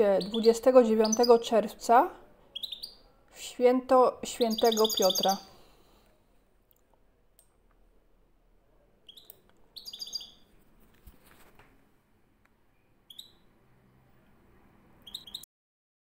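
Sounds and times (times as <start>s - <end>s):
small birds chirping faintly: 0.0s - 10.8s, 12.5s - 15.5s.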